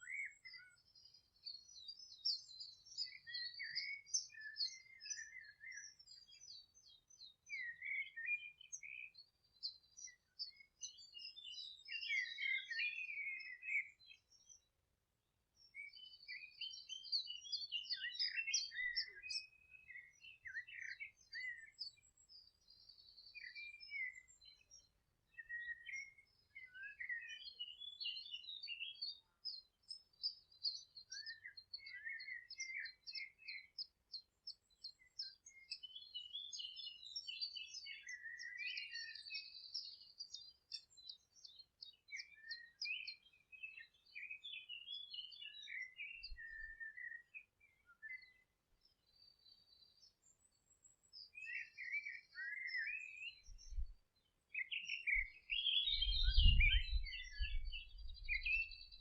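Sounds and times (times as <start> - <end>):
songbirds chirping and warbling: 0.0 - 59.0.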